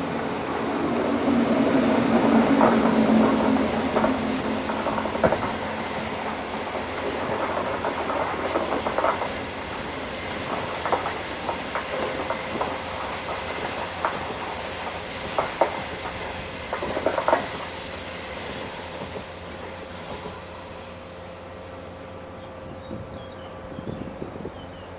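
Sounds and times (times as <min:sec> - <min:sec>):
train rumble: 0:00.0 - 0:24.9
train wheels clacking over rail joints: 0:00.5 - 0:20.7.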